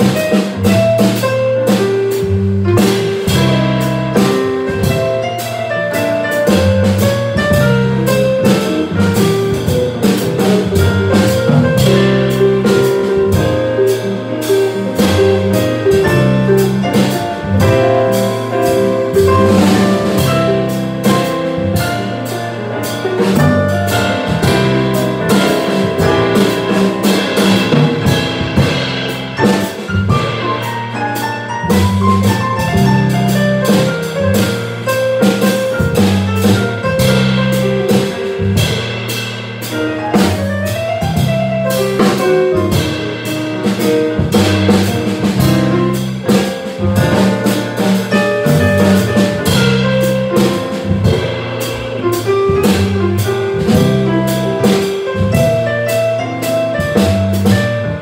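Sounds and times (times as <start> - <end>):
drum kit with cymbals: 0.0 - 58.0
electric bass: 0.0 - 58.0.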